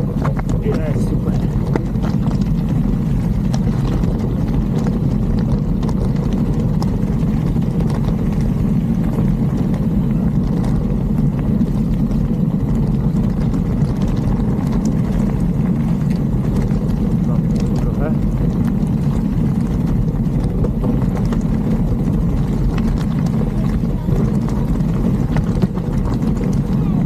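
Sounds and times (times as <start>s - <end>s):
bike tyres and frame rattling: 0.0s - 27.0s
wind buffeting microphone: 0.0s - 27.0s.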